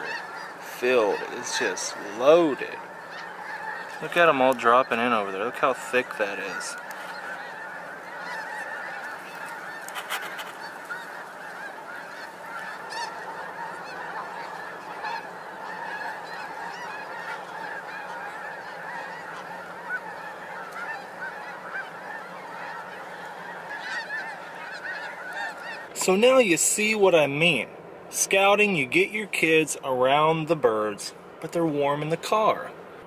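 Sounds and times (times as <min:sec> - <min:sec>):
flock of geese honking: 0:00.0 - 0:33.0.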